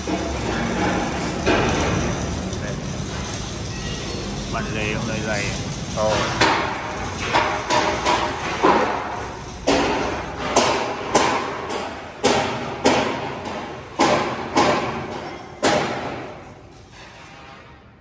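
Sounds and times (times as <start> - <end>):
hammer striking steel: 0.0 - 4.6, 6.1 - 17.7.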